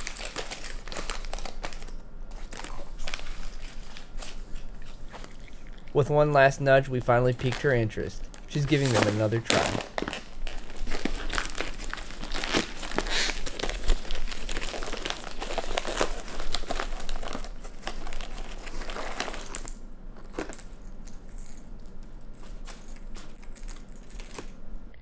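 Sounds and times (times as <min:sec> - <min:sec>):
plastic bag crinkling: 0:00.0 - 0:06.0, 0:07.1 - 0:24.6.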